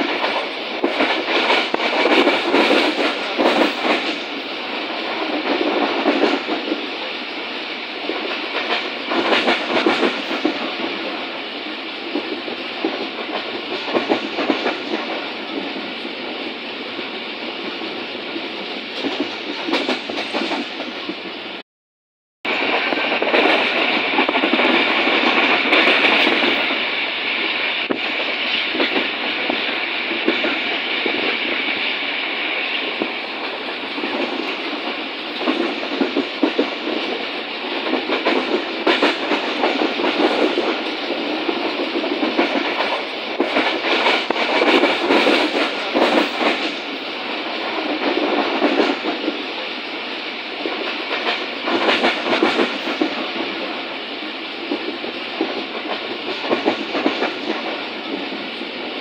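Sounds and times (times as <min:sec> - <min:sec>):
train wheels rumbling on rails: 0:00.0 - 0:21.6, 0:22.5 - 0:59.0
wheels clickety-clack over rail joints: 0:00.0 - 0:21.6, 0:22.5 - 0:59.0.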